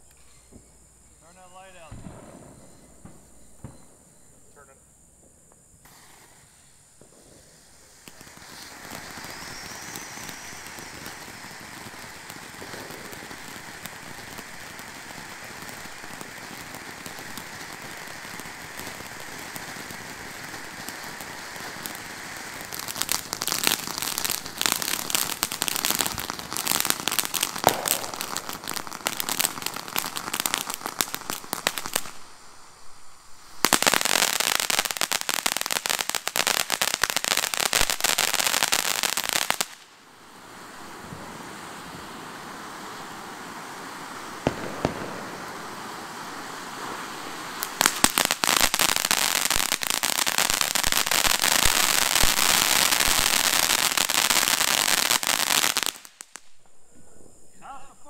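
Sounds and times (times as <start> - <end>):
fireworks dense crackling: 0.0 - 58.0
fireworks spraying hiss: 0.0 - 58.0.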